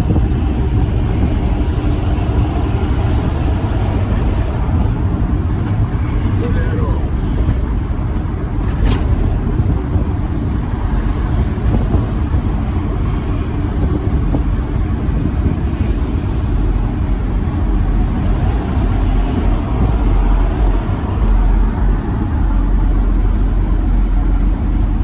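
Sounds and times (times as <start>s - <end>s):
truck engine and road rumble: 0.0s - 25.0s.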